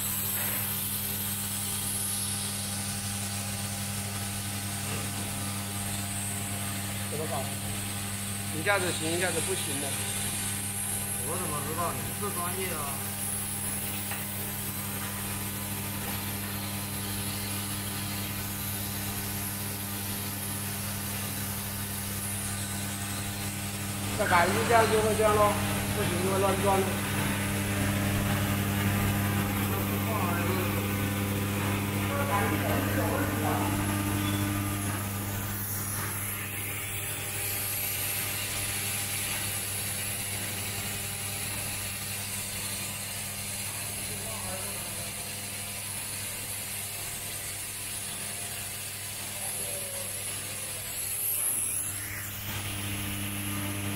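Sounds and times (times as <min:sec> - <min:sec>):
vibratory feeders humming: 0:00.0 - 0:45.6.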